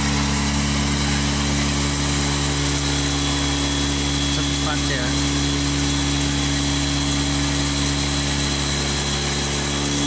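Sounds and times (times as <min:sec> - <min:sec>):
electric motor humming: 0:00.0 - 0:10.0.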